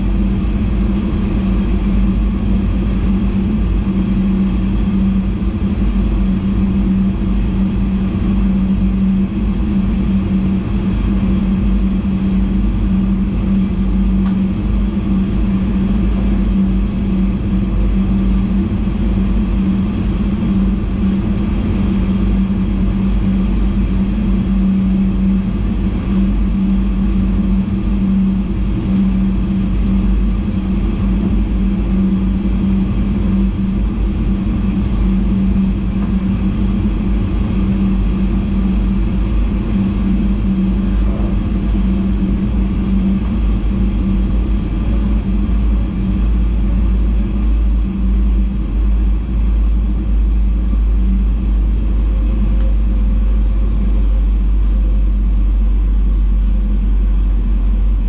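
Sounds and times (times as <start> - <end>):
train wheels rumbling on rail: 0.0 - 54.0
constant hum: 0.0 - 58.0.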